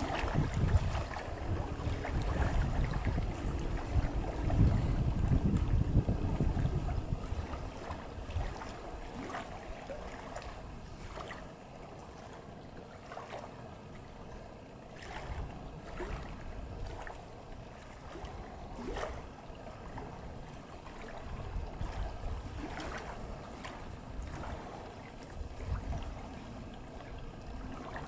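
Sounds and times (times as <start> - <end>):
wind rumbling on microphone: 0.0 - 11.5, 15.0 - 28.0
faint short splashes: 0.0 - 28.0
lapping lake water: 0.0 - 28.0.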